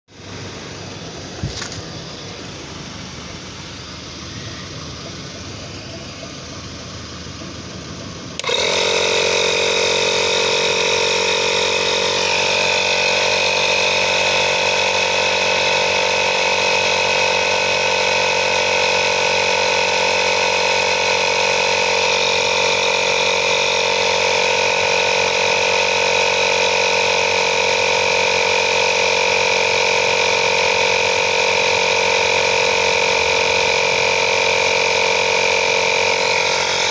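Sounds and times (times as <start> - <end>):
tyre inflator compressor whining: 0.1 - 36.9.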